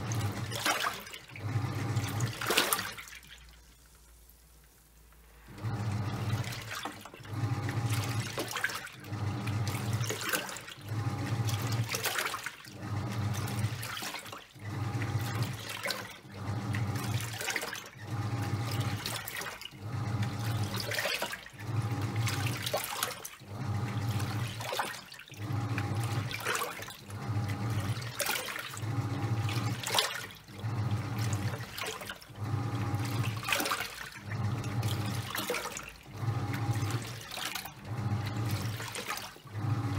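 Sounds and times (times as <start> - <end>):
washing machine motor humming: 0.0 - 4.1, 5.2 - 39.9
water and towels sloshing: 0.0 - 4.4, 5.3 - 39.9.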